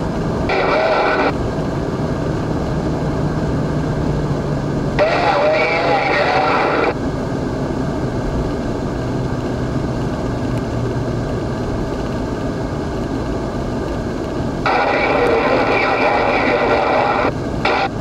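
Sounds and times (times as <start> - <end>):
car road noise from inside cabin: 0.0 - 18.0.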